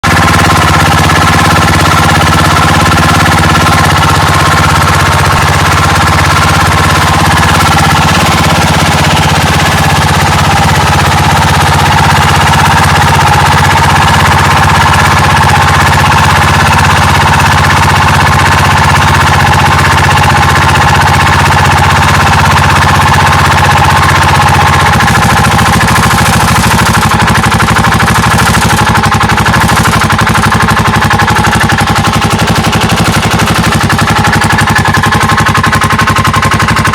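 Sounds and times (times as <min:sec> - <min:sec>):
scooter engine running: 0:00.0 - 0:36.9.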